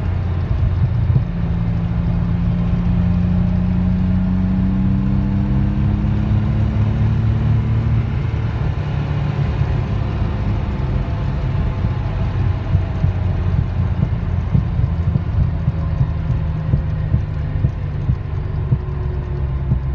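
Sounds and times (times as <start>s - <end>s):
car engine drone from inside cabin: 0.0s - 19.9s.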